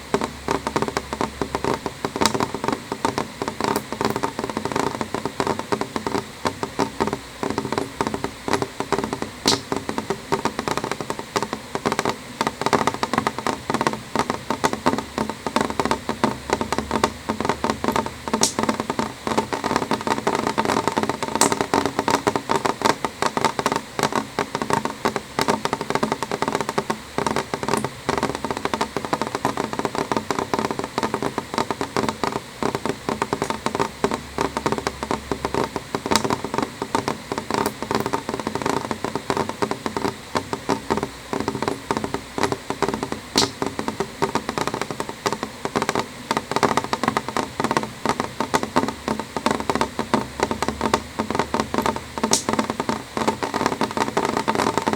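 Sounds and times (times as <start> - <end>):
raindrops tapping on glass: 0.0 - 54.9
steady wash of rain: 0.0 - 54.9.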